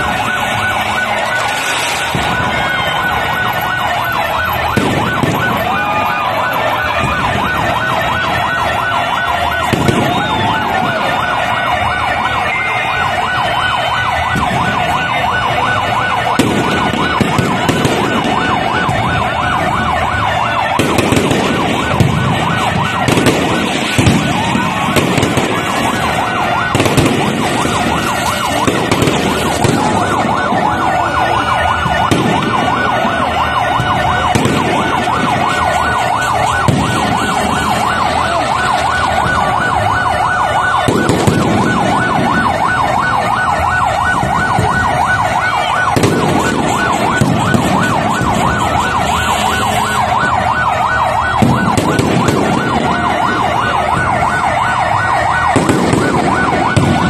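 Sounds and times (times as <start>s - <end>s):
firework bangs: 0.0s - 57.0s
fireworks crackling: 0.0s - 57.0s
whistling fireworks: 0.0s - 57.0s.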